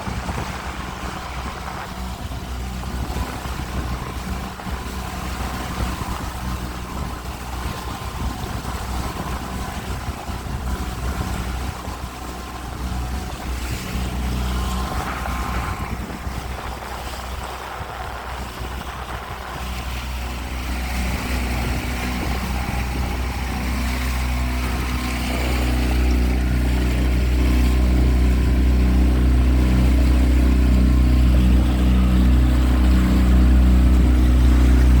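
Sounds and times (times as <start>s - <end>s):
outboard motor humming: 0.0s - 35.0s.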